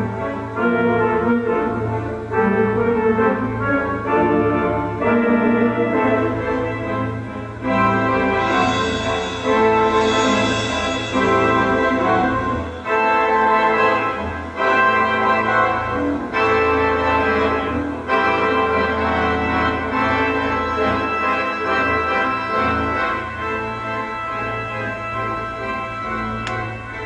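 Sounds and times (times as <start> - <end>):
organ chords: 0.0 - 27.0.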